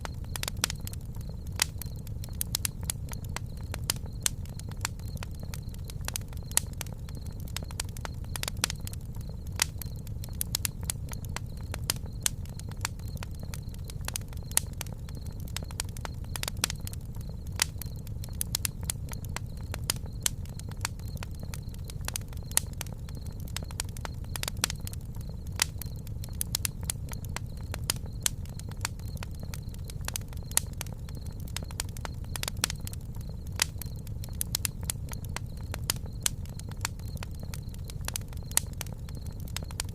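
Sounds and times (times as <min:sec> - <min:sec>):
campfire wood crackling: 0:00.0 - 0:39.9
sharp fire pops: 0:00.0 - 0:39.9.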